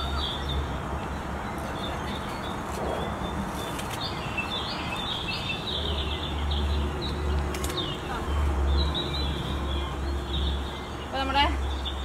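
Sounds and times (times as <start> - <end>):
outdoor background hiss: 0.0 - 12.0
small birds chirping: 0.0 - 12.0.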